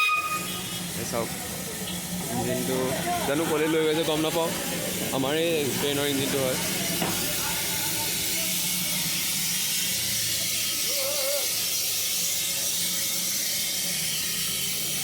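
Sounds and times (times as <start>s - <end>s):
steam locomotive hissing steam: 0.0s - 15.0s.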